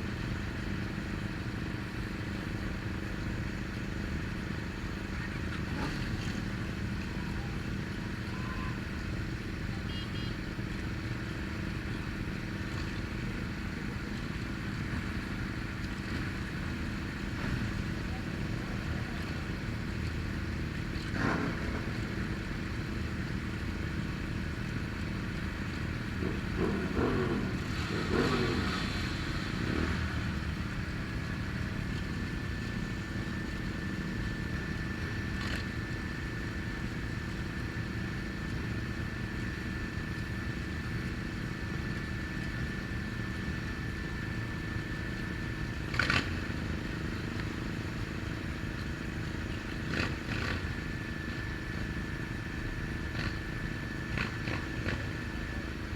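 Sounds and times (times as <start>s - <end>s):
small motorcycle engine running: 0.1s - 55.9s.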